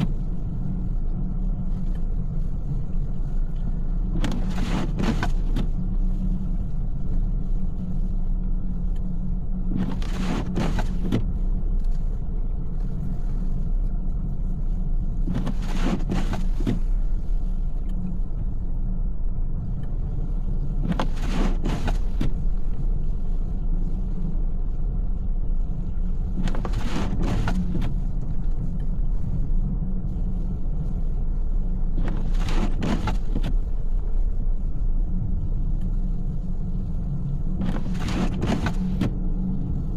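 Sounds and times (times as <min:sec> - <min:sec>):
windshield wipers swishing: 0:00.0 - 0:18.7, 0:20.0 - 0:39.9
car cabin road rumble: 0:00.0 - 0:39.9.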